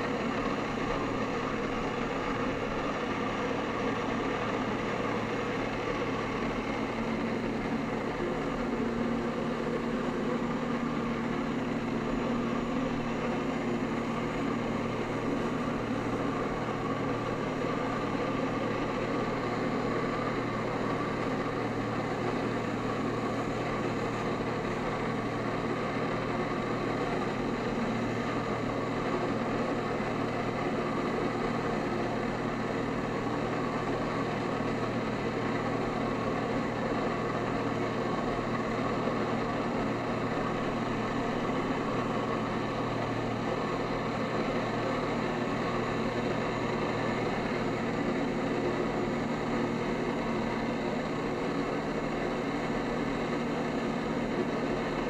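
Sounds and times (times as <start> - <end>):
jet ski engine running: 0.0 - 55.0.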